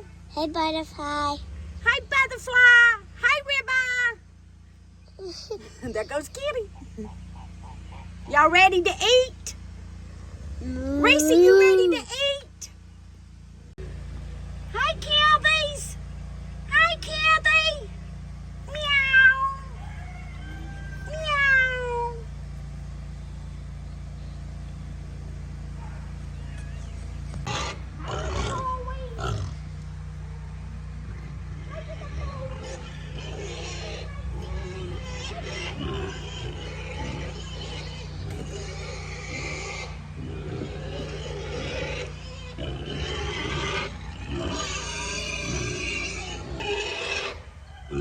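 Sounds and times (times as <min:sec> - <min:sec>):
engine idling: 0:00.0 - 0:48.0
low steady hum: 0:00.0 - 0:48.0
farm animals calling: 0:01.0 - 0:13.1, 0:14.3 - 0:48.0.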